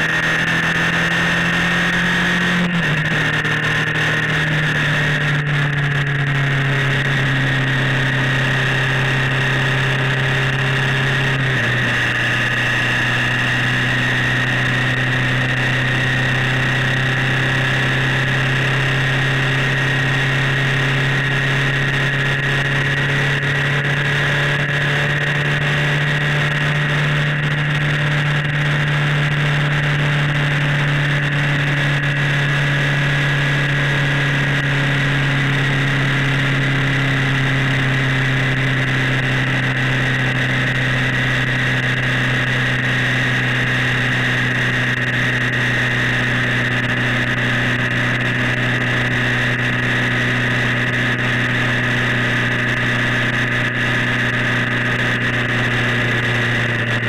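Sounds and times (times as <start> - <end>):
motorcycle engine drone: 0.0 - 57.0.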